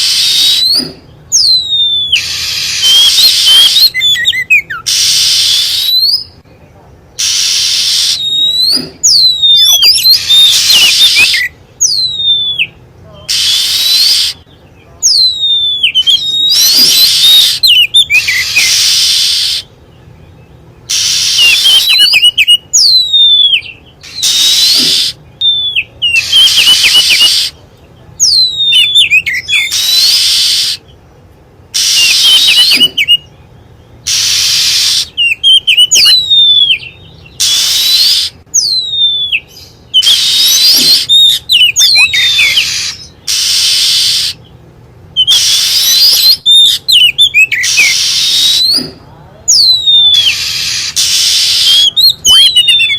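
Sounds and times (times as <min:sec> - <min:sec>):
bird rasps and whistles: 0:00.0 - 0:06.4, 0:07.2 - 0:27.6, 0:28.2 - 0:31.0, 0:31.7 - 0:44.6, 0:45.2 - 0:52.9.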